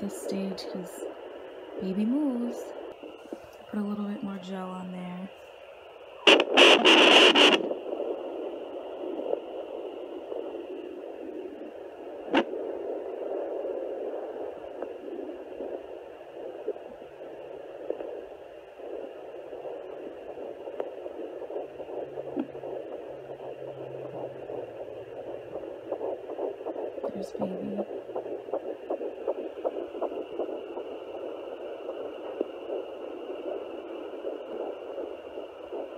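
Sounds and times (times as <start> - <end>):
fast pulsing heartbeat: 0.0 - 35.9.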